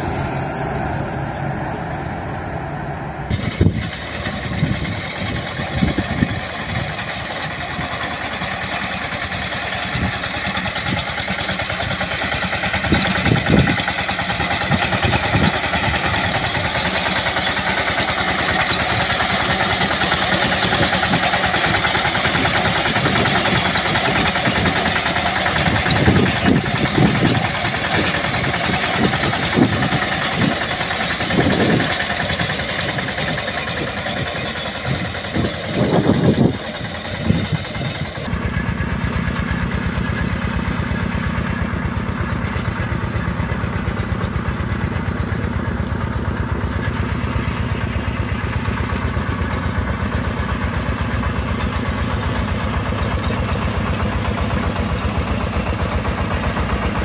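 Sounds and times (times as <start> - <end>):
fodder cutter engine running: 0.0 - 57.0
tractor engine with mower cutting grass: 0.0 - 57.0.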